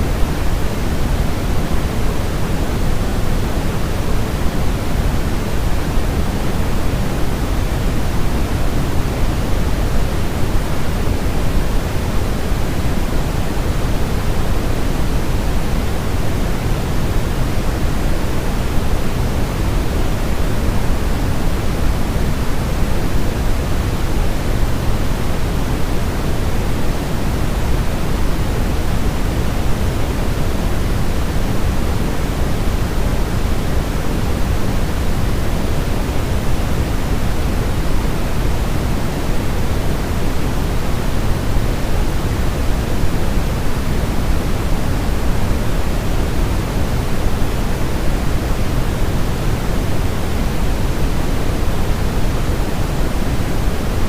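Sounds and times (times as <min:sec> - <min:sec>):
synthetic white noise: 0:00.0 - 0:54.0.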